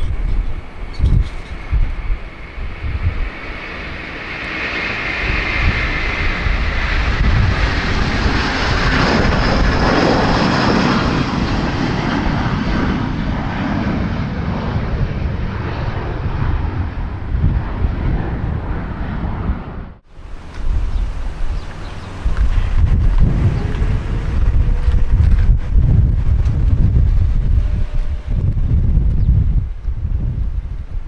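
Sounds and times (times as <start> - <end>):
jet engines roaring: 0.0 - 31.0
wind on microphone: 0.0 - 31.0.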